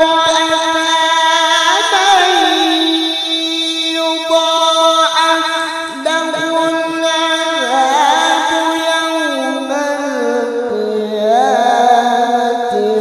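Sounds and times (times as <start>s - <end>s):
man reciting melodically into microphone: 0.0s - 13.0s.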